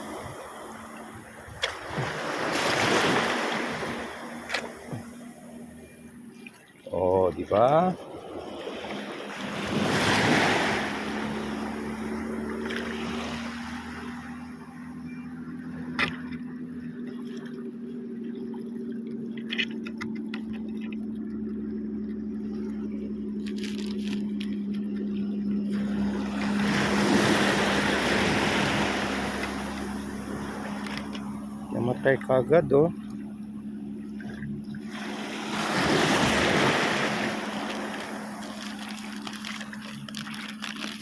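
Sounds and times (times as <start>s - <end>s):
steady engine drone: 0.0s - 41.0s
waves washing in: 0.0s - 41.0s.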